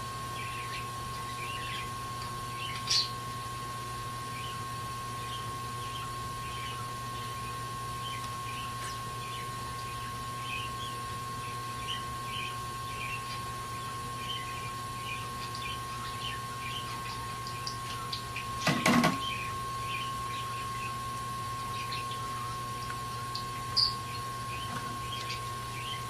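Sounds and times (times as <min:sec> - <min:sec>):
electrical hum with high whine: 0:00.0 - 0:26.0.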